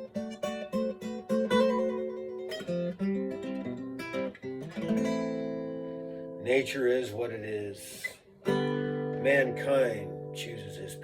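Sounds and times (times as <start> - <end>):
acoustic guitar picking notes: 0.0 - 11.0.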